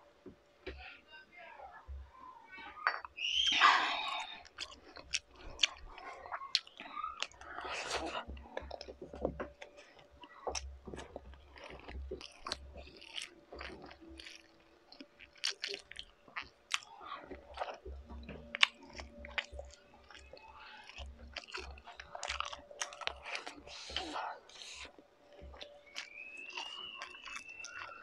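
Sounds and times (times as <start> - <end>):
person chewing food: 2.6 - 28.0.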